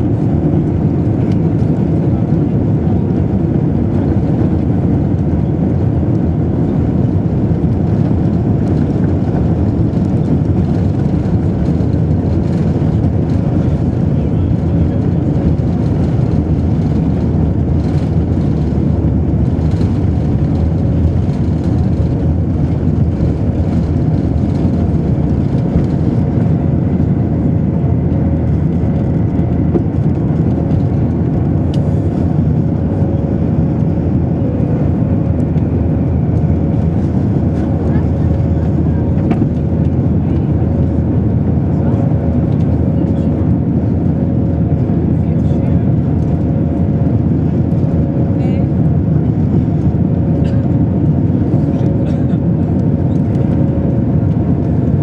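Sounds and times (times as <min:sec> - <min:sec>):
jet engine noise: 0:00.0 - 0:55.0
runway rumble: 0:00.0 - 0:55.0.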